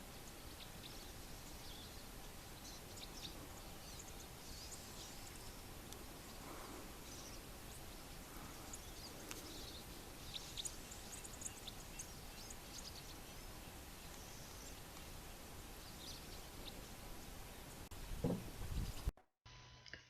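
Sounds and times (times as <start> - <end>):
outdoor background hiss: 0.0 - 19.1
small birds chirping: 0.0 - 19.1.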